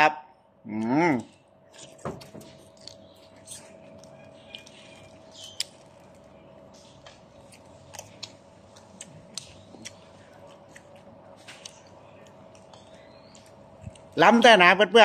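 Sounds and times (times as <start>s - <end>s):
faint steady hum: 0.0s - 15.0s
quiet chewing: 1.1s - 14.2s.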